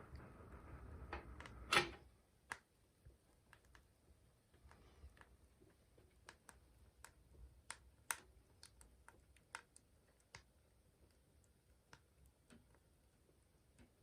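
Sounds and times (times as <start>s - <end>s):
faint sharp clicks and ticks: 0.0s - 14.0s.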